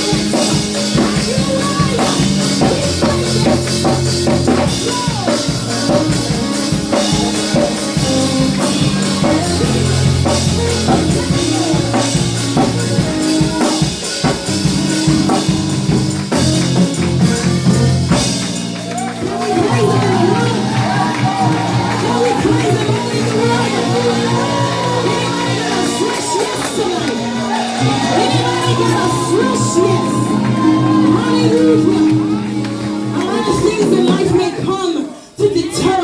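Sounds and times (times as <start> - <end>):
drum kit beat: 0.0 - 34.8
worship band playing: 0.0 - 36.0.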